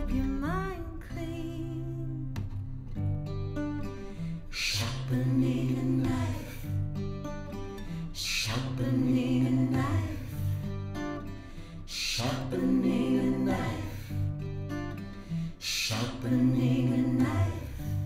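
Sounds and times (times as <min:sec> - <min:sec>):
acoustic guitar instrumental: 0:00.0 - 0:18.0.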